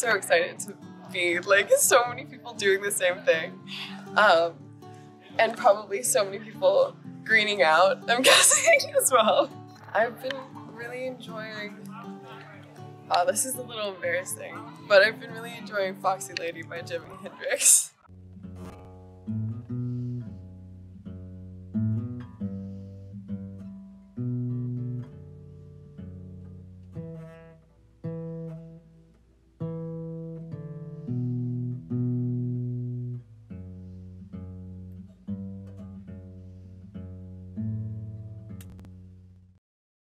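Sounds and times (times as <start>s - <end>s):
slow guitar music: 0.0s - 39.6s.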